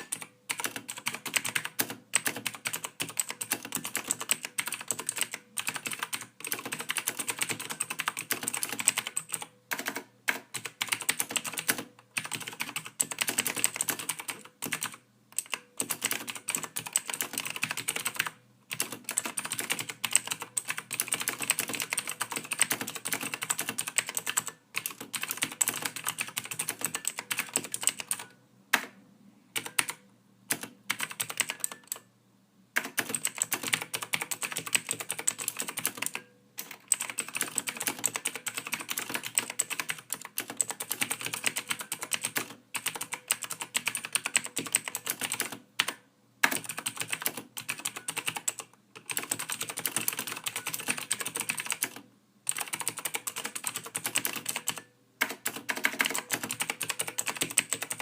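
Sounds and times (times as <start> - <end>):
typing on computer keyboard: 0.0 - 28.9, 29.6 - 32.1, 32.8 - 58.0.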